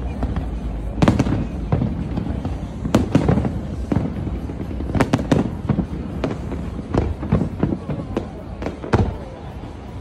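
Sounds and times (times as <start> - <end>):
fireworks bangs: 0.0 - 10.0
rumble of explosions: 0.0 - 10.0.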